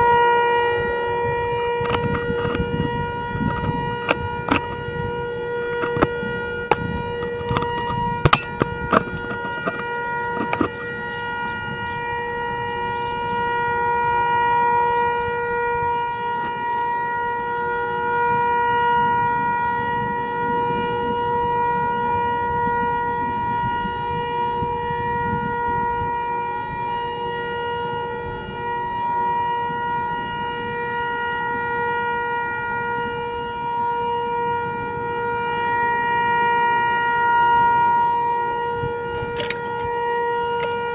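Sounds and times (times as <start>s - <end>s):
warning siren steady tone: 0.0s - 40.9s
wind noise on microphone: 0.0s - 40.9s.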